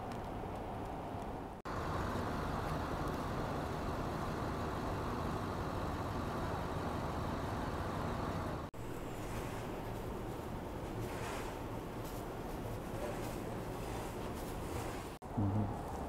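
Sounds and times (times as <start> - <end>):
street traffic: 0.0 - 14.4, 15.1 - 16.0.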